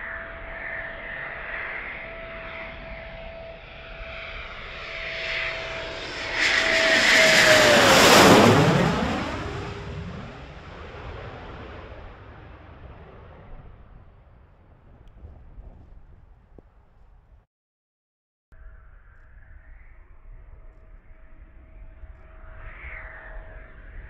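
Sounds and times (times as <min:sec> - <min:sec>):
jet engine whine passing overhead: 0:00.0 - 0:16.6, 0:18.8 - 0:24.0.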